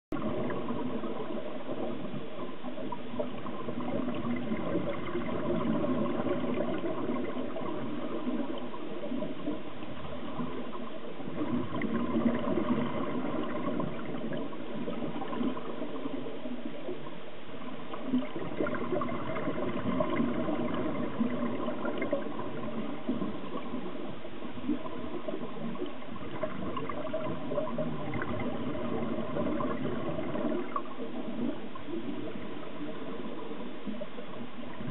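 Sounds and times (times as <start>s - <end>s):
underwater regulator bubbles: 0.1s - 34.9s.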